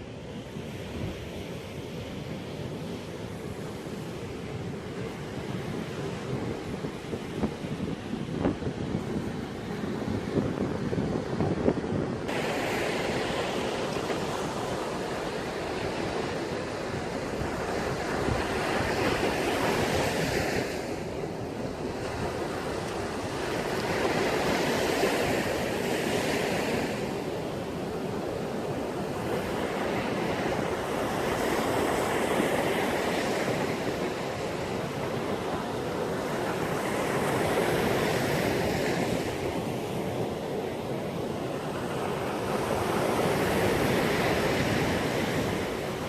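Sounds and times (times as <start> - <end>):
sea waves breaking on shore: 0.0 - 46.0
wind buffeting microphone: 0.3 - 46.0.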